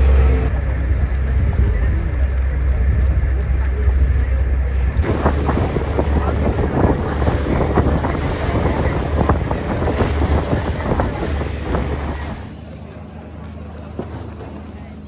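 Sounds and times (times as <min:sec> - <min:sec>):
water splashing and rushing: 0:00.0 - 0:12.8
wind on microphone: 0:00.0 - 0:12.8.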